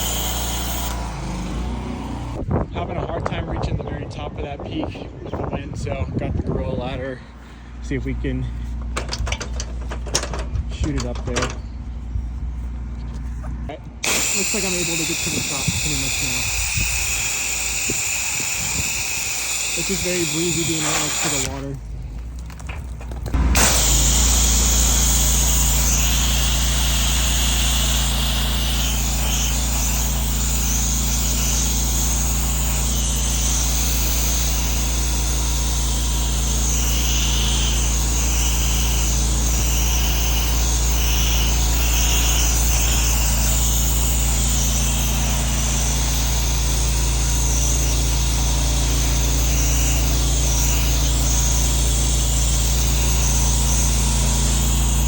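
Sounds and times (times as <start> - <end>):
pressure washer engine hum: 0.0 - 2.4, 8.5 - 55.0.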